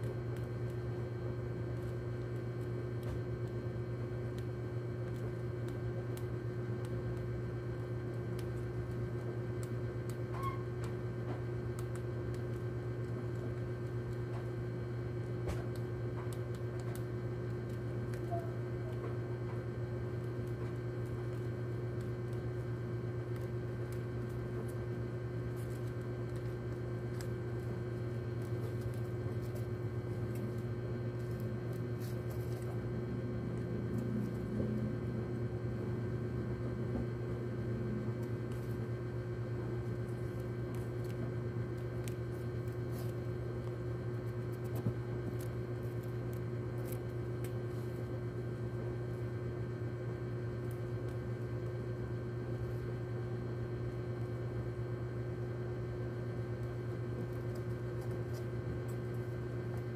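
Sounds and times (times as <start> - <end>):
rat nibbling pellets: 0.0 - 36.0, 36.9 - 54.8, 55.4 - 59.9
steady low hum: 0.0 - 59.9.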